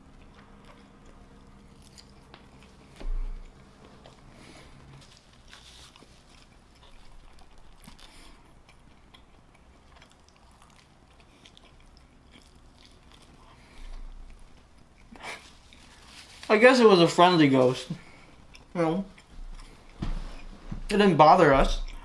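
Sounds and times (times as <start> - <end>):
person chewing: 0.0 - 16.5, 17.9 - 20.8, 21.6 - 22.0.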